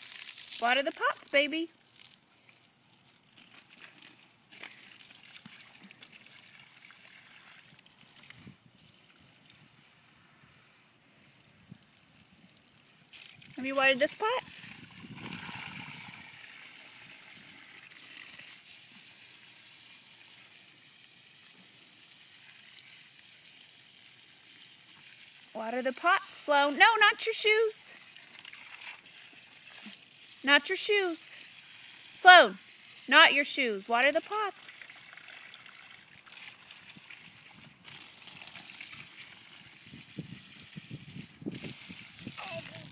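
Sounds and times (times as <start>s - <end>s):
garden hose water spraying: 0.0s - 42.9s.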